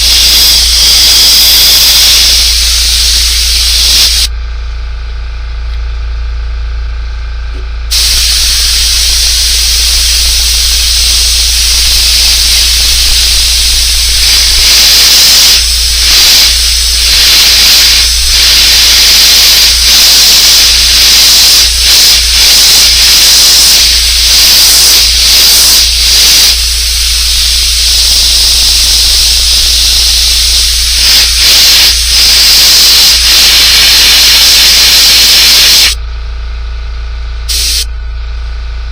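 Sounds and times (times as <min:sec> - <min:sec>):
airbrush spraying hiss: 0:00.0 - 0:04.3, 0:07.9 - 0:36.0, 0:37.5 - 0:37.9.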